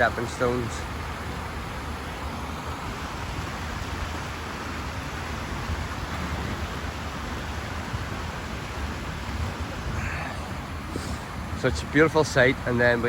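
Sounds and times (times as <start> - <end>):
river water rushing over stones: 0.0 - 13.0.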